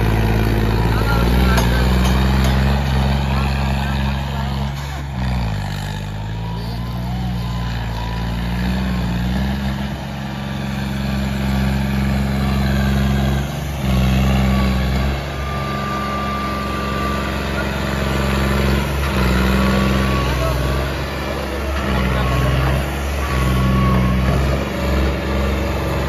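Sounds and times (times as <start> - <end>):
tractor engine under load: 0.0 - 26.0.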